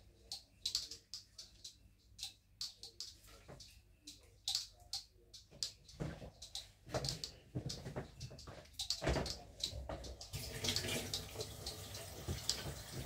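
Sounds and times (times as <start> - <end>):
handling clicks and taps: 0.3 - 12.8.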